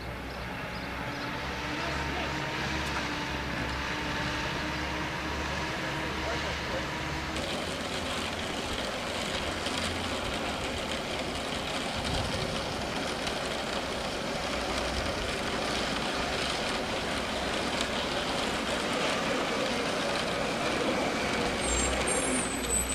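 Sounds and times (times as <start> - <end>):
engine droning: 0.0 - 22.9.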